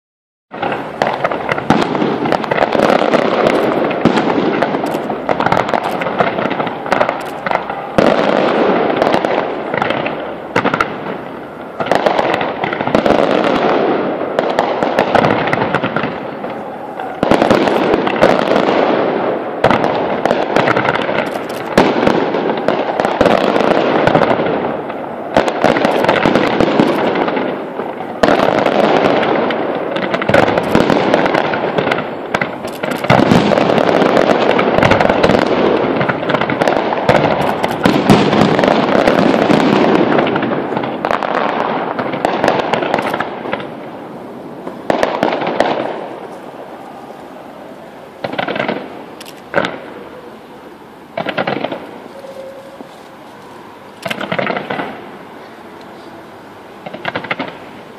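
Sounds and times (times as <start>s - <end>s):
fireworks bangs and crackling: 0.5s - 57.9s.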